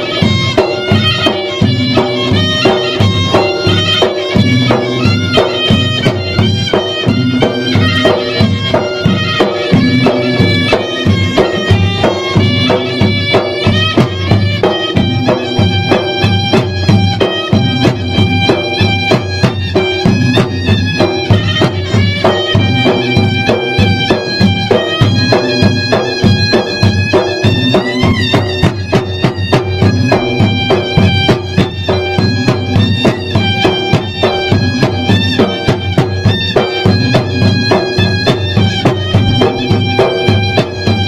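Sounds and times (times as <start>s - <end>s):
drum ensemble playing fast rhythm: 0.0s - 41.0s
shawm droning melody: 0.0s - 41.0s.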